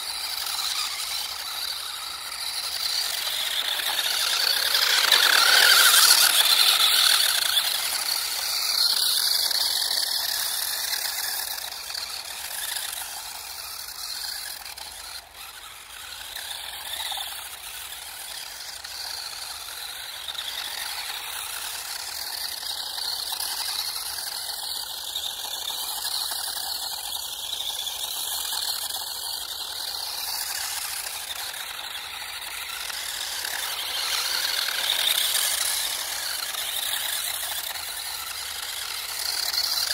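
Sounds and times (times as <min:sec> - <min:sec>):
rc car motor whirring: 0:00.0 - 0:39.9.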